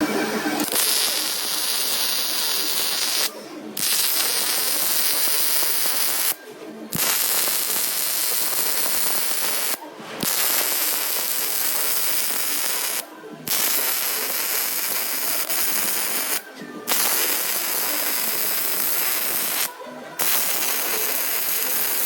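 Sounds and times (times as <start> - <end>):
welding arc crackling: 0.1 - 22.0.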